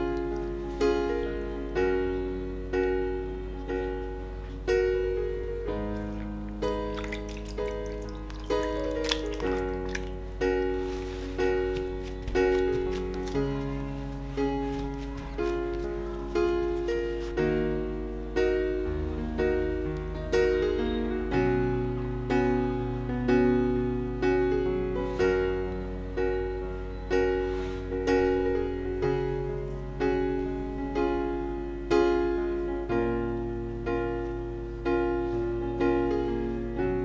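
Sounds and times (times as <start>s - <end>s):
instrumental music: 0.0s - 37.0s.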